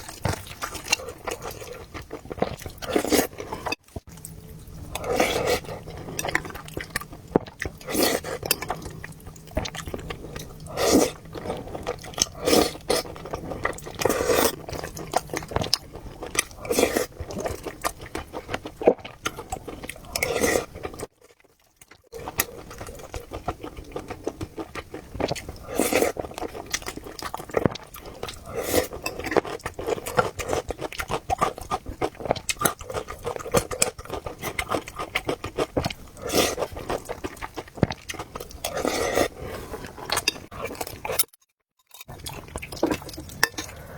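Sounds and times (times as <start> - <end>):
chewing and biting food: 0.0 - 43.9.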